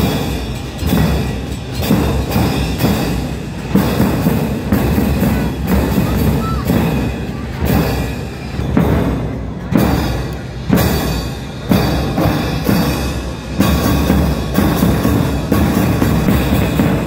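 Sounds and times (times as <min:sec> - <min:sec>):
bass drums: 0:00.0 - 0:17.0
cymbals: 0:00.0 - 0:17.0.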